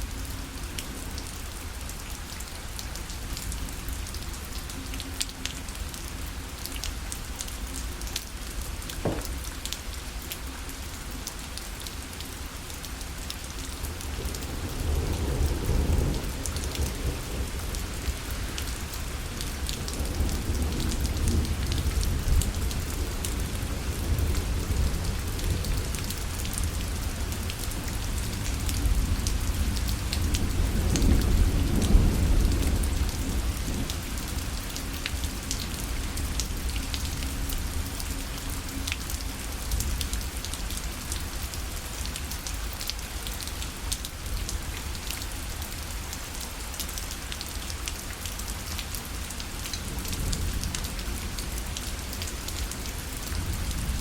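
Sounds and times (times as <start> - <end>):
rain on a fabric parasol: 0.0 - 54.0.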